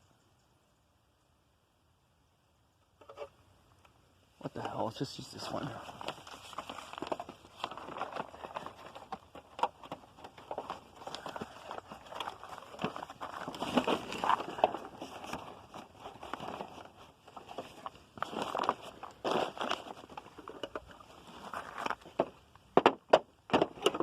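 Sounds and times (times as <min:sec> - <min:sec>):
rustling and crackling: 0:04.4 - 0:24.0.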